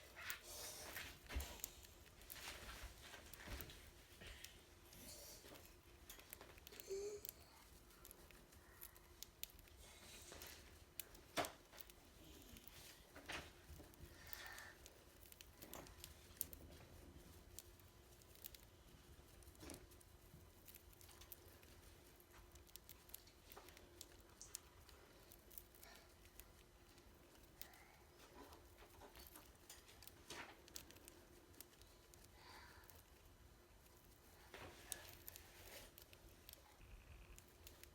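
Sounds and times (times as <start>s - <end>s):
budgie pecking seeds: 0.0s - 37.9s.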